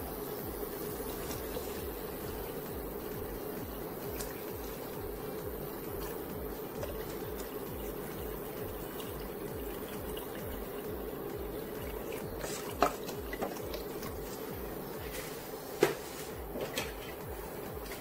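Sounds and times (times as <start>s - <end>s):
liquid pouring and splashing: 0.7s - 18.0s.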